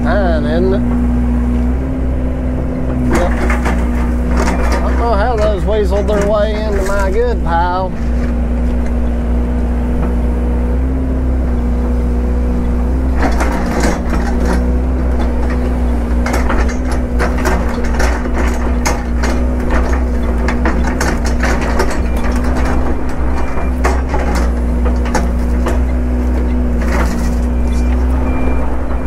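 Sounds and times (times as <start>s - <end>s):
excavator diesel engine running: 0.0s - 29.0s
wood and brush cracking: 2.9s - 10.4s, 11.6s - 29.0s.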